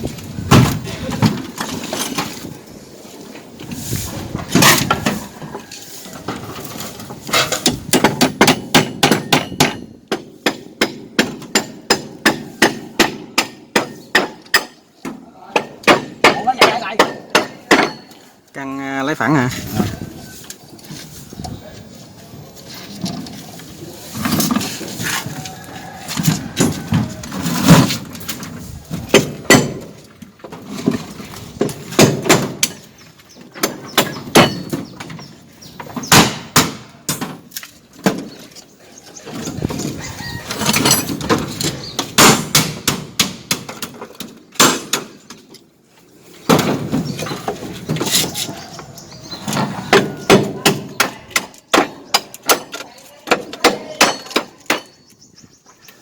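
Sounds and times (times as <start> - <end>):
hand tools tapping and scraping mortar: 0.0 - 18.6, 19.4 - 56.0.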